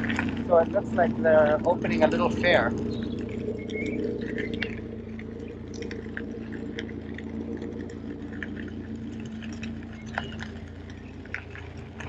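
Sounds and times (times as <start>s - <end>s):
electric motor hum: 0.0s - 12.0s
wind rumble on microphone: 0.0s - 12.0s.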